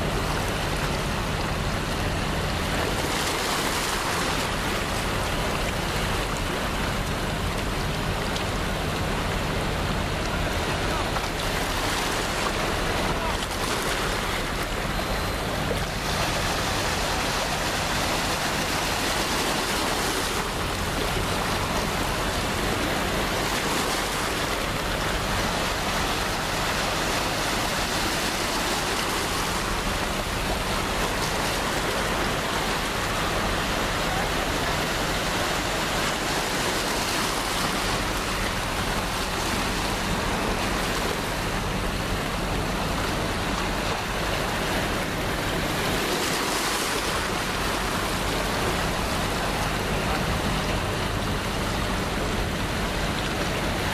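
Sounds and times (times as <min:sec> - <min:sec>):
low engine drone: 0:00.0 - 0:53.9
sea wash: 0:00.0 - 0:53.9.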